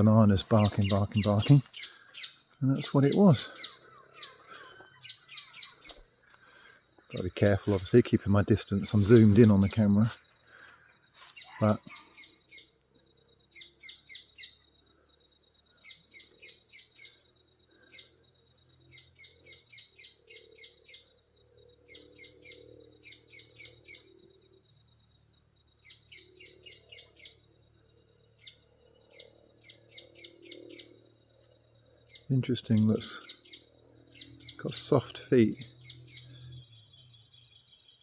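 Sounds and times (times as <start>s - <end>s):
bird chirping: 0.0s - 38.0s.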